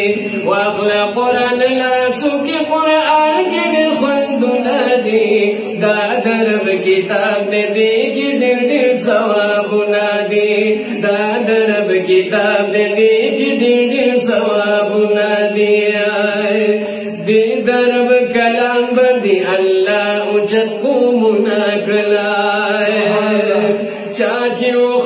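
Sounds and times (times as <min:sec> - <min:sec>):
two men chanting: 0:00.0 - 0:25.0.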